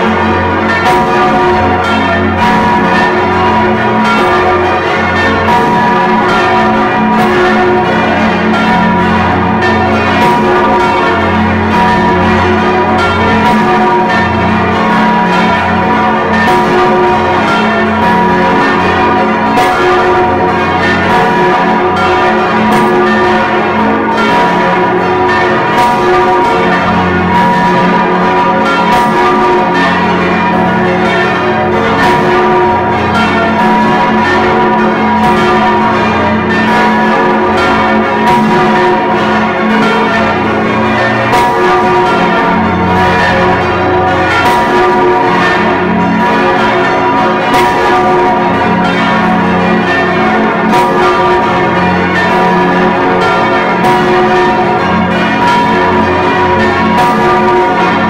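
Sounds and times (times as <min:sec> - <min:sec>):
church bells ringing in full peal: 0:00.0 - 0:58.0.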